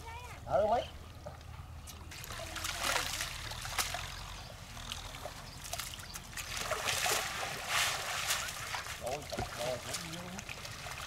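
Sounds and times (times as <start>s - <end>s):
water splashing and trickling: 1.4s - 11.0s.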